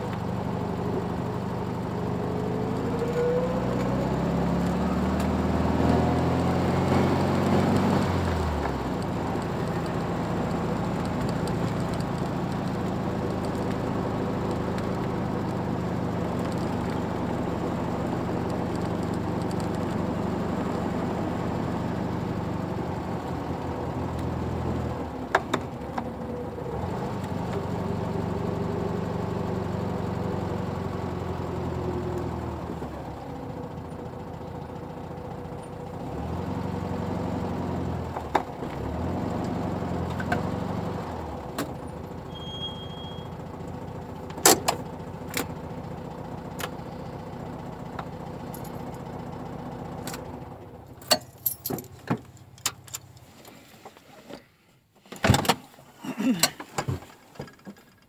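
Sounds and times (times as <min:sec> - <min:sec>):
car engine idling: 0:00.0 - 0:38.6, 0:39.5 - 0:53.4.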